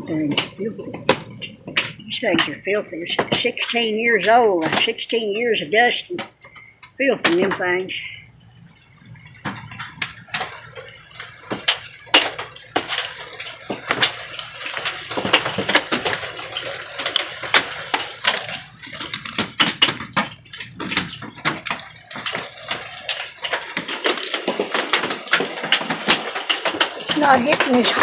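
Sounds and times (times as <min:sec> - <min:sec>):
hail hitting roof and windows: 0:00.0 - 0:28.0
rain hissing on roof: 0:00.0 - 0:28.0.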